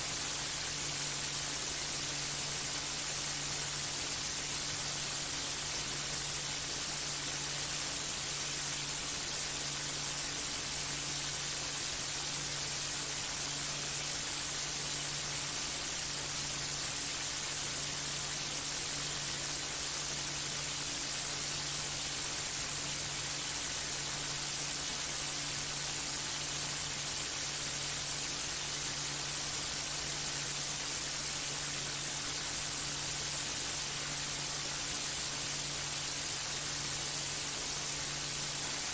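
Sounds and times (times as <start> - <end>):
low electrical hum: 0.0 - 38.9
steady static hiss: 0.0 - 38.9.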